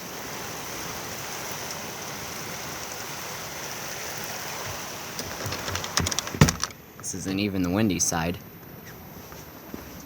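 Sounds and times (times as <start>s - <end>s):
heavy rain pouring: 0.0s - 8.2s.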